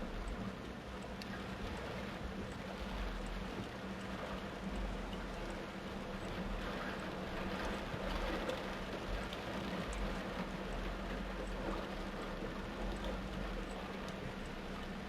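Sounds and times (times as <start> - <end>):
torrential rain: 0.0 - 15.0.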